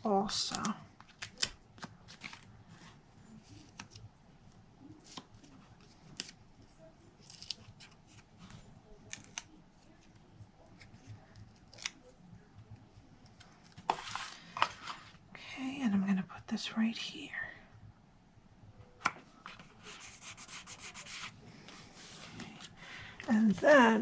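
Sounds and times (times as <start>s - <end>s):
paper materials handled by hand: 0.0s - 15.2s, 19.4s - 24.0s.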